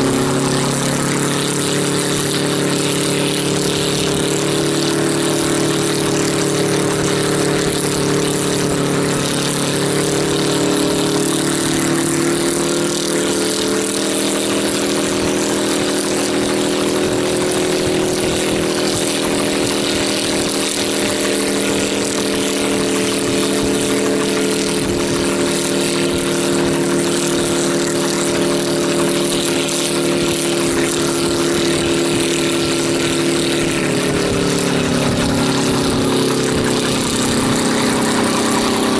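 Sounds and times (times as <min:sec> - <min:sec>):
helicopter engine running: 0:00.0 - 0:38.9.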